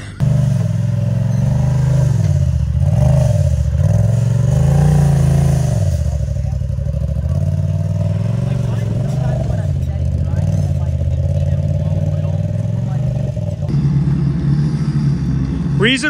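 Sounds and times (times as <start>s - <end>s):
utv engine revving: 0.0s - 16.0s.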